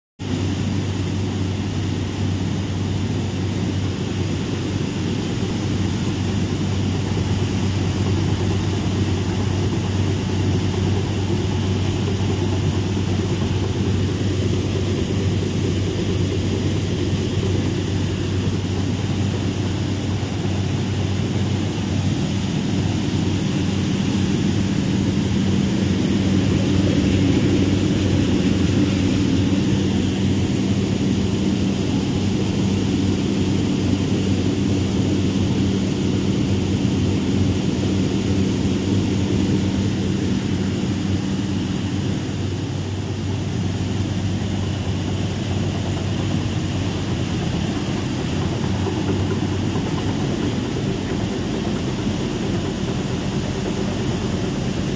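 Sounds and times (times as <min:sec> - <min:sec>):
grain cleaning machine humming: 0:00.2 - 0:54.9.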